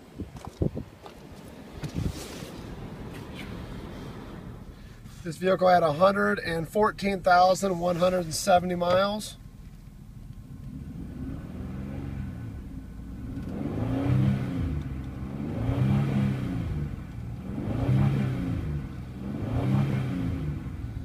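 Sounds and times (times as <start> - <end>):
car engine revving: 1.7 - 21.0.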